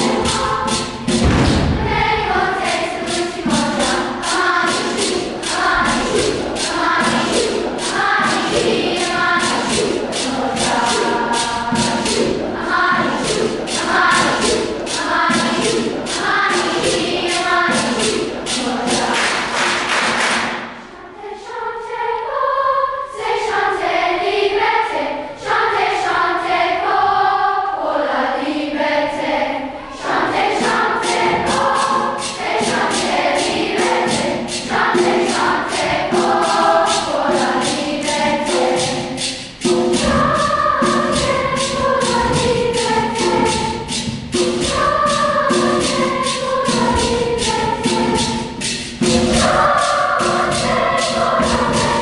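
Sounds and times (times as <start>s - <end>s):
percussion beat: 0.0s - 20.9s, 29.9s - 52.0s
children's choir singing: 0.0s - 52.0s.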